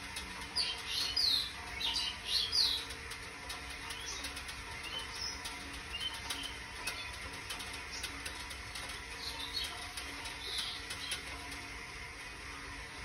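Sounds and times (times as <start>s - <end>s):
faint steady hum: 0.0s - 13.0s
light ticking: 0.0s - 13.0s.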